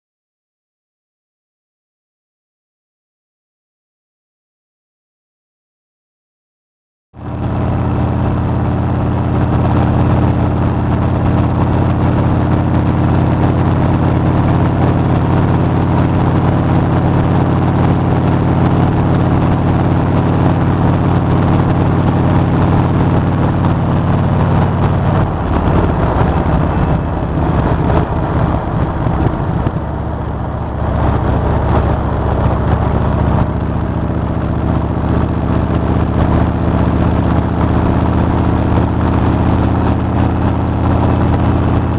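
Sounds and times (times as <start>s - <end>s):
motorcycle engine running: 7.2s - 41.9s
wind and road noise: 7.2s - 41.9s.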